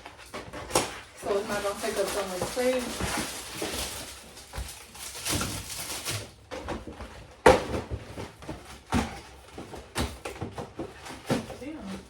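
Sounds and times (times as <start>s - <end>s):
items knocking and clunking: 0.0s - 12.0s.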